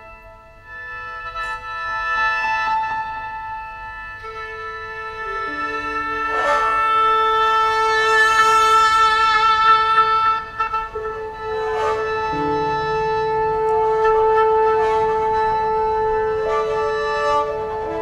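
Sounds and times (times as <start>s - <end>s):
bowed fiddle: 0.0s - 18.0s
wind instruments holding long notes: 0.0s - 18.0s.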